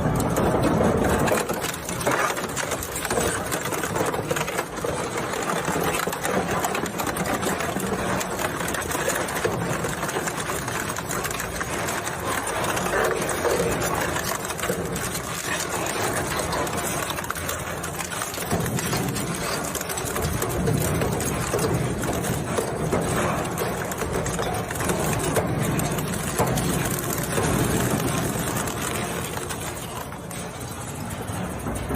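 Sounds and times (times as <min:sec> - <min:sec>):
plastic shredder running: 0:00.0 - 0:31.9.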